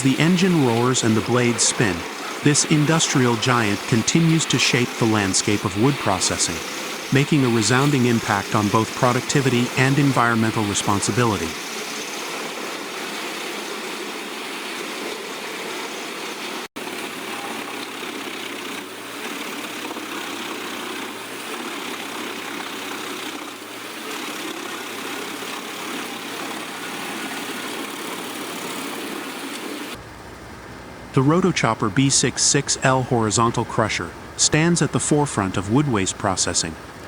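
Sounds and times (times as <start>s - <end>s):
industrial wood crusher grinding: 0.0s - 30.0s.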